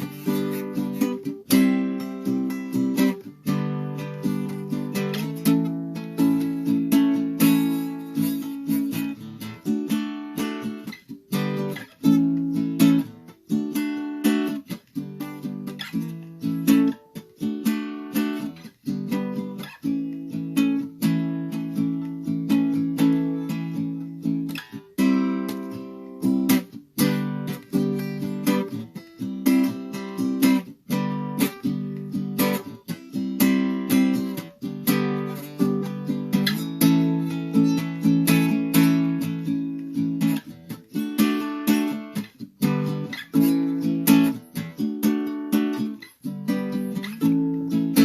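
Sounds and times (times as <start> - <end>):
acoustic guitar strumming: 0.0 - 48.0.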